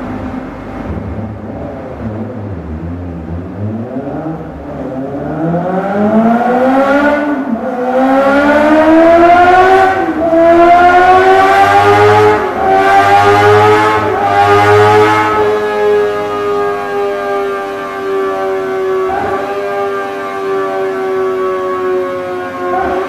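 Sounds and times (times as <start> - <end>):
motorcycle engine revving hard: 0.8 - 23.0.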